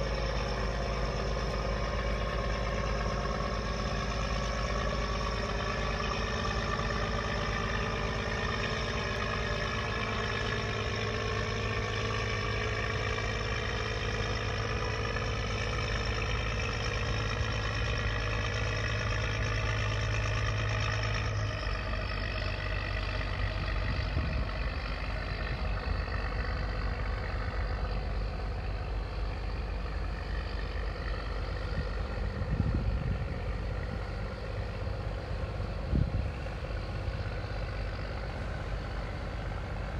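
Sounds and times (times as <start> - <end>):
diesel boat engine running: 0.0 - 39.9
low hum: 0.0 - 39.9.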